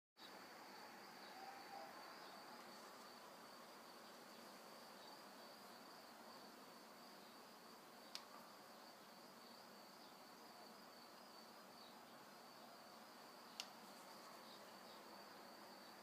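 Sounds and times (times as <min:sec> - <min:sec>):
faint hiss: 0:00.2 - 0:16.0.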